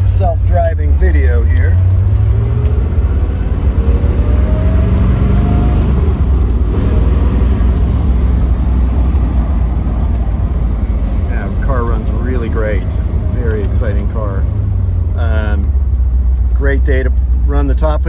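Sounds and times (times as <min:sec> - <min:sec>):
car engine rumbling while driving: 0:00.0 - 0:18.0.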